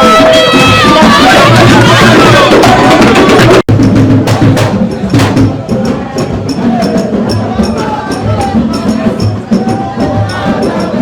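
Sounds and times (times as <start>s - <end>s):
singing voices: 0.0s - 3.6s, 4.5s - 11.0s
live music with drums: 0.0s - 11.0s
percussion with sharp clicks: 1.6s - 11.0s.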